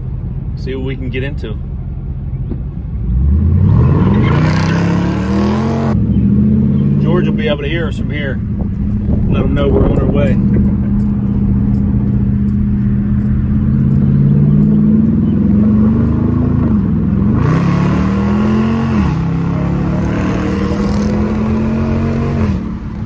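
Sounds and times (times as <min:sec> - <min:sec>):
car engine accelerating: 0:01.8 - 0:23.0.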